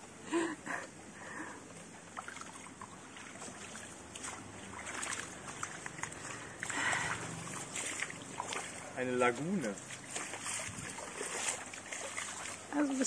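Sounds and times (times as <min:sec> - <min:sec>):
footsteps splashing through water: 0:01.7 - 0:13.0
loud splash: 0:02.2 - 0:12.7.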